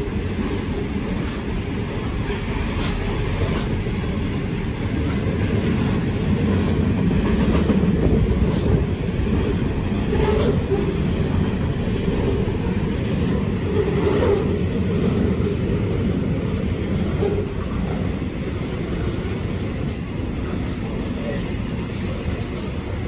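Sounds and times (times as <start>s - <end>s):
electric train rumble: 0.0s - 23.0s.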